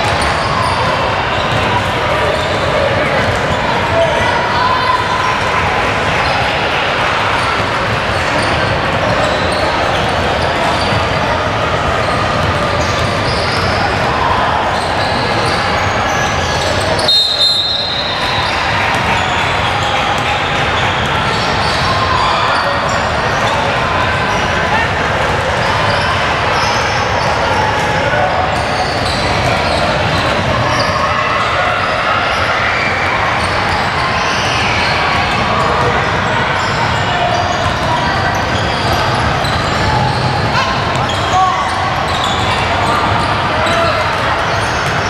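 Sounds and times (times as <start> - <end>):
people talking: 0.0 - 45.0
spectators chatting: 0.0 - 45.0.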